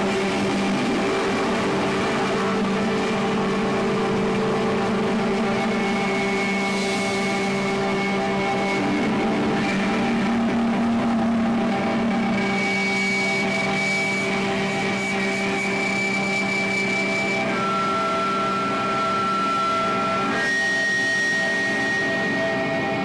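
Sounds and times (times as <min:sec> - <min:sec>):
distorted electric guitar: 0:00.0 - 0:23.0
long droning tones: 0:00.0 - 0:23.0.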